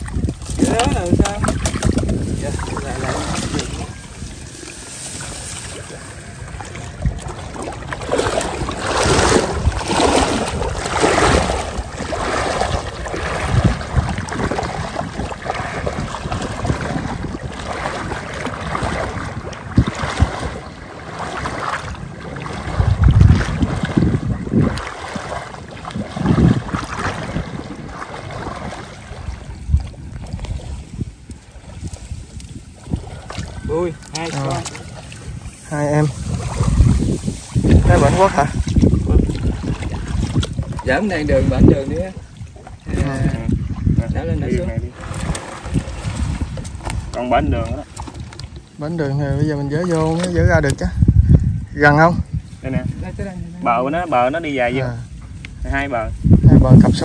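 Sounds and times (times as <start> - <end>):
water swishing and splashing: 0.0 - 57.0
wind buffeting microphone: 0.0 - 57.0.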